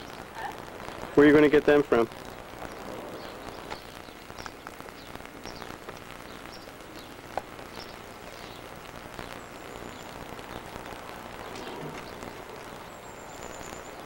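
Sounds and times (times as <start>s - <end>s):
steady hiss: 0.0s - 14.0s
faint bird chirps: 2.1s - 14.0s.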